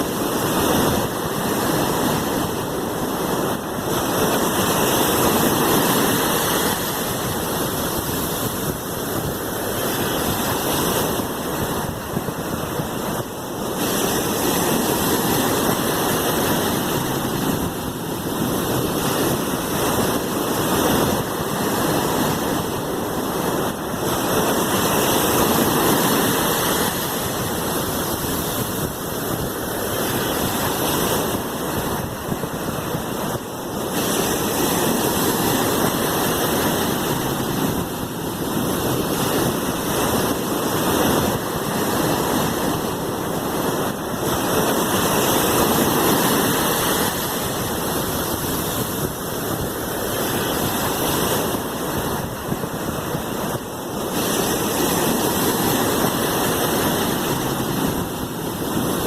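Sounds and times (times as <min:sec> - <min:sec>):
sea waves washing in: 0:00.0 - 0:59.0.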